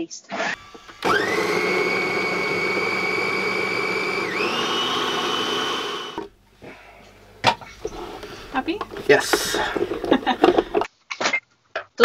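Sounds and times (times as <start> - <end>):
food processor motor whining: 0.5 - 10.9.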